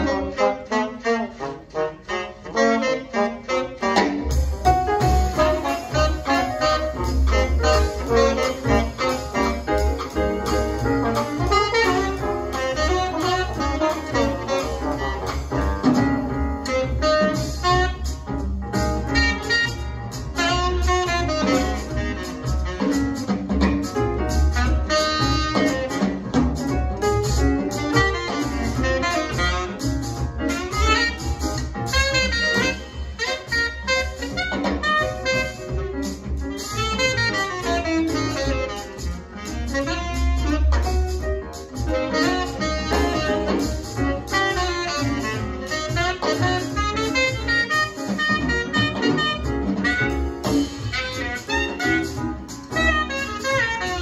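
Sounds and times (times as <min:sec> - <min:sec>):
saxophone lead: 0:00.0 - 0:23.6, 0:24.2 - 0:26.3, 0:27.0 - 0:54.0
jazz rhythm section with bass: 0:00.0 - 0:54.0.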